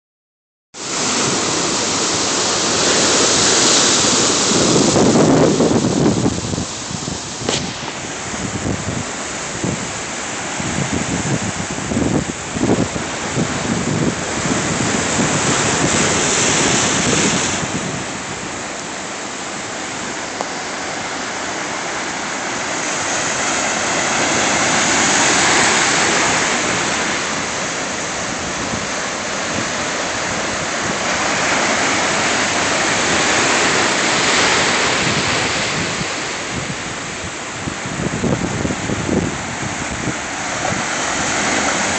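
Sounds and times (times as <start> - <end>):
ocean surf breaking over rocks: 0.8 - 41.9.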